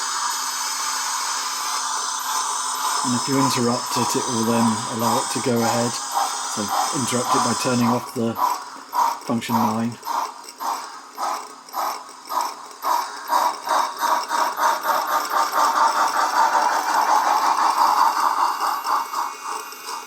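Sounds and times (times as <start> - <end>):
steam locomotive exhaust chuffs: 0.0 - 20.0.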